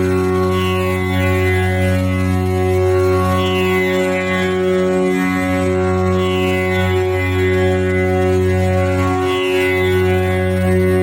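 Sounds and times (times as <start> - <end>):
tanpura drone: 0.0 - 11.0.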